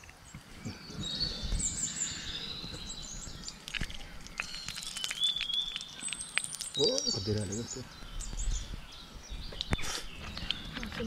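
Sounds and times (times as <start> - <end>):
birds singing and calling: 0.0 - 11.0.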